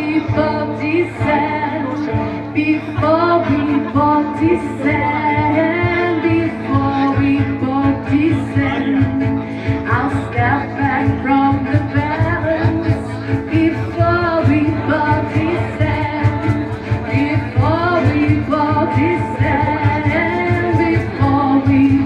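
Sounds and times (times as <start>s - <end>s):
indistinct vocal melody: 0.0s - 22.0s.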